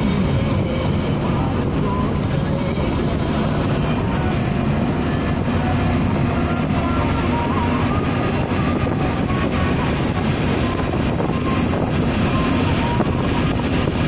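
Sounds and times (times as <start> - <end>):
car cabin road noise: 0.0 - 14.0.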